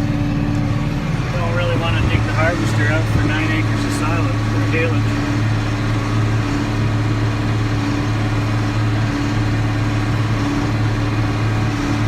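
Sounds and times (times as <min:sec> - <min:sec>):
tractor diesel engine droning: 0:00.0 - 0:12.0.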